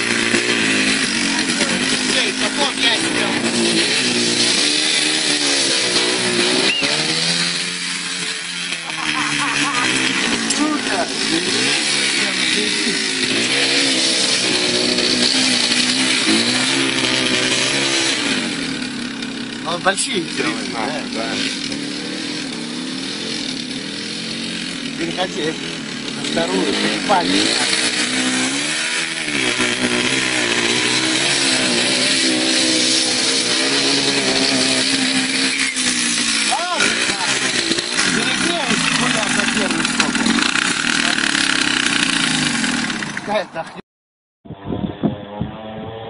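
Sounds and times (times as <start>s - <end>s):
motorcycle engine revving: 0.0s - 43.8s, 44.5s - 46.0s.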